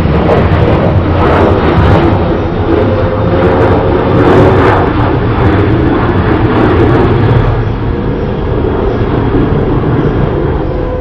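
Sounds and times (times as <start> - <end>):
heavy low rumble: 0.0 - 11.0
tornado sirens wailing: 0.0 - 11.0.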